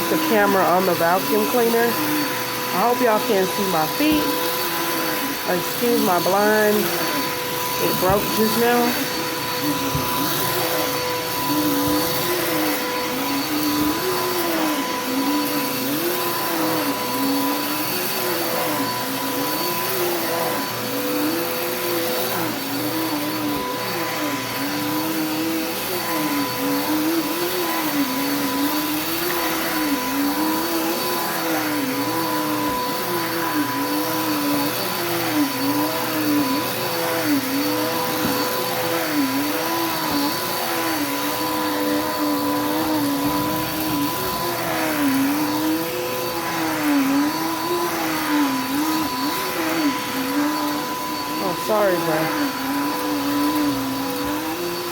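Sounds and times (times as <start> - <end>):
vacuum cleaner on carpet: 0.0 - 54.9.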